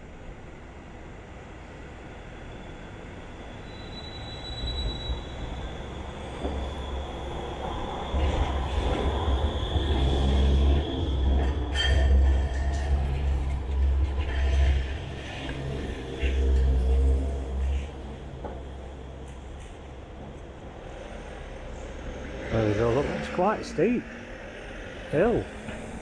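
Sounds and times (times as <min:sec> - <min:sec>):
tram rumbling: 0:00.0 - 0:26.0
wheels squealing on rails: 0:00.2 - 0:26.0.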